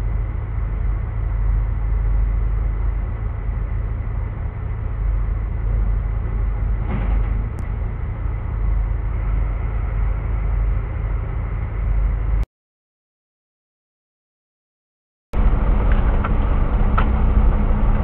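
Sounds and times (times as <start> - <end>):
diesel engine idling: 0.0 - 12.4, 15.4 - 18.0.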